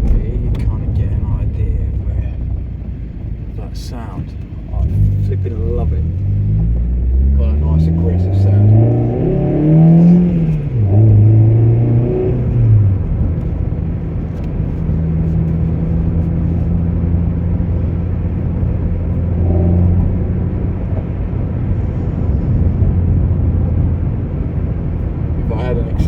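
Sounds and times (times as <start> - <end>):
car engine drone: 0.0 - 26.0
road noise inside car: 0.0 - 26.0.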